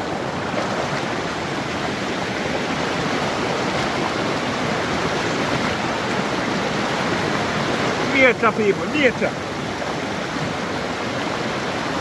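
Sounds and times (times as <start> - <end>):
river water rushing: 0.0 - 12.0
small waterfall pouring: 0.0 - 12.0.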